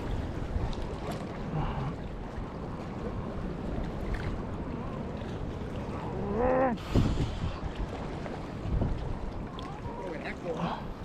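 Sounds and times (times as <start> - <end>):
water noise around kayak: 0.0 - 11.0
wind buffeting microphone: 0.0 - 11.0.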